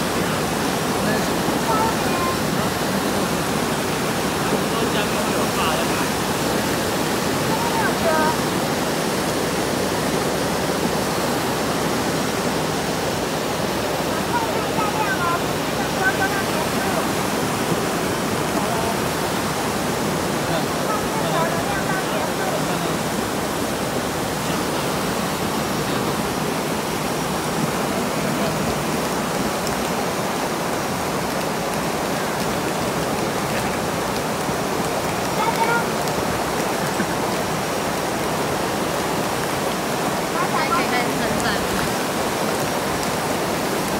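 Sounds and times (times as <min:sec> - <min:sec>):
fast water rushing: 0:00.0 - 0:43.9.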